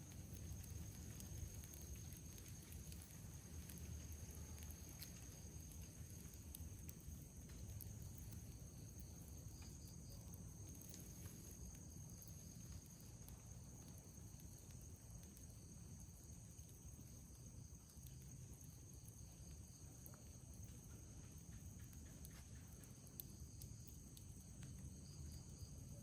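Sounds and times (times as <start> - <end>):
campfire crackling: 0.0 - 26.0
crickets trilling: 0.0 - 26.0.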